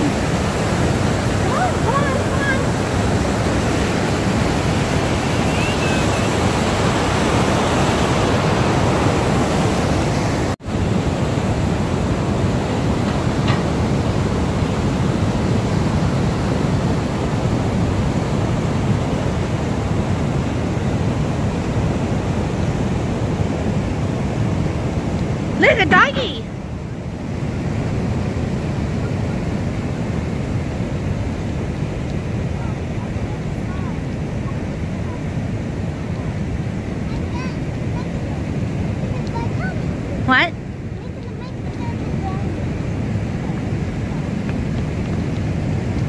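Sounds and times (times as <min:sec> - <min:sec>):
white water rushing: 0:00.0 - 0:46.0.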